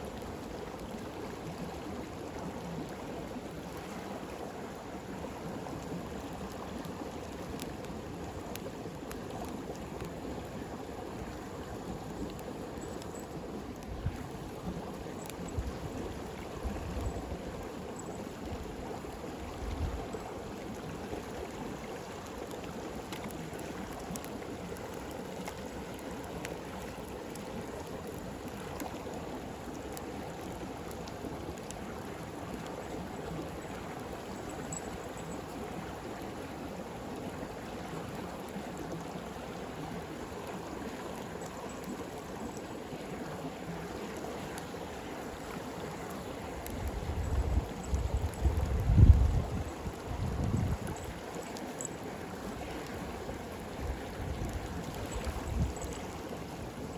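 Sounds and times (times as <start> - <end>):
campfire crackling: 0.0 - 56.9
stream rushing: 0.0 - 56.9.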